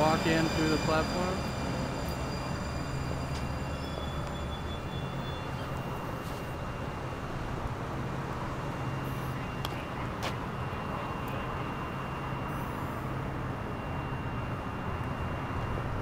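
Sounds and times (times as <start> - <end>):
faint high whine: 0.0 - 16.0
rail car low hum: 0.0 - 16.0.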